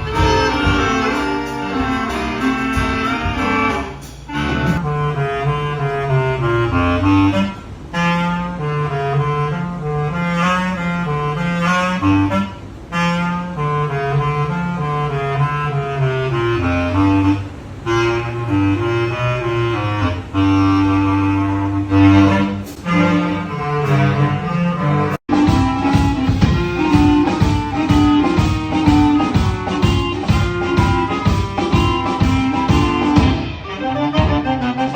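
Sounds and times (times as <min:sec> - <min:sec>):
bass clarinet ensemble playing: 0:00.0 - 0:34.9.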